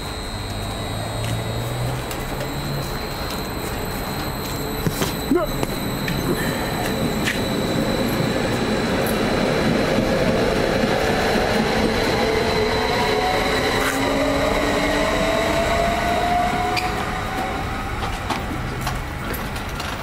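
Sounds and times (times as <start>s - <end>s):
rising motor whine: 0.0s - 19.1s
train wheels rumbling on track: 0.0s - 20.0s.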